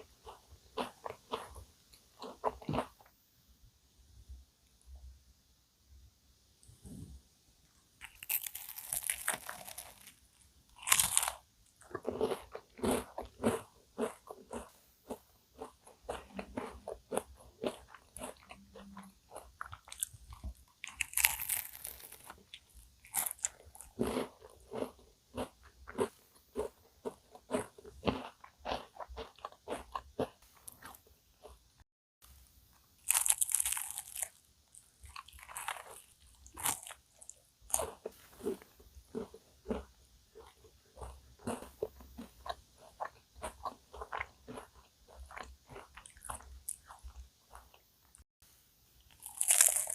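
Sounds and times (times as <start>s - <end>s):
crunchy bites and chewing: 0.0s - 3.1s, 8.0s - 31.6s, 33.0s - 48.2s, 49.1s - 49.9s.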